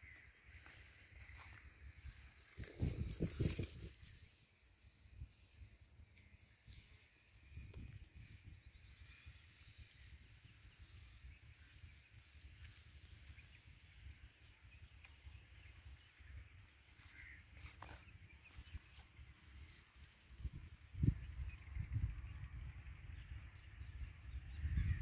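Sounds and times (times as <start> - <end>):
faint bird chirps: 0.0 - 25.0.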